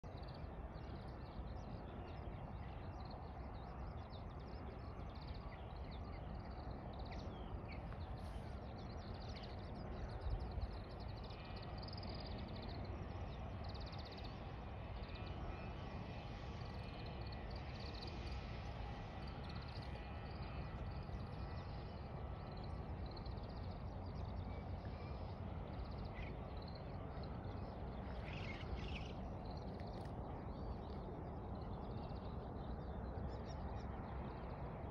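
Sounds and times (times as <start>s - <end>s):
small birds chirping: 0.0s - 34.6s
low background rumble: 0.0s - 34.9s.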